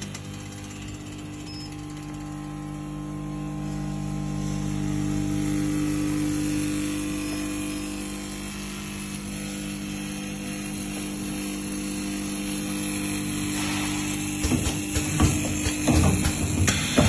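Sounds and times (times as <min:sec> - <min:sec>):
bowl feeders humming: 0:00.0 - 0:17.0.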